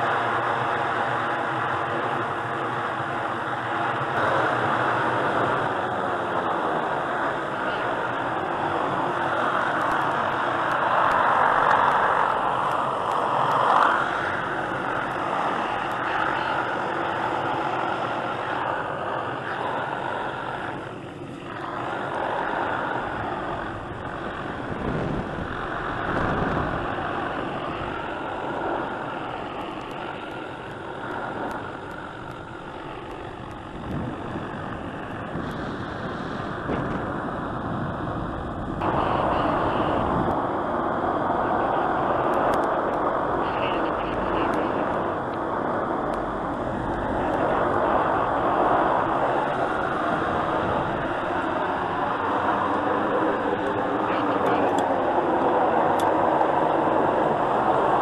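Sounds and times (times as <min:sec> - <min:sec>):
helicopter rushing din: 0:00.0 - 0:58.0.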